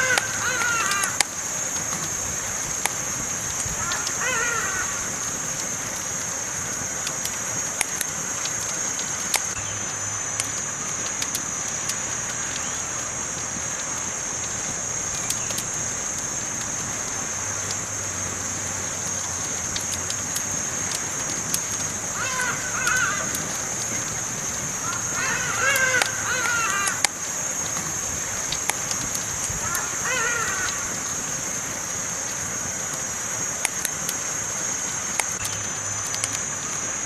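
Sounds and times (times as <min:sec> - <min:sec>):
campfire crackling: 0:00.0 - 0:37.0
constant high-pitched tone: 0:00.0 - 0:37.0.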